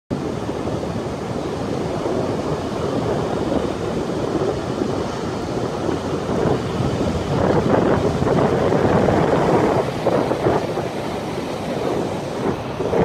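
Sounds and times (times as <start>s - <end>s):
surf breaking on beach: 0.1s - 13.0s
wind buffeting microphone: 0.1s - 13.0s.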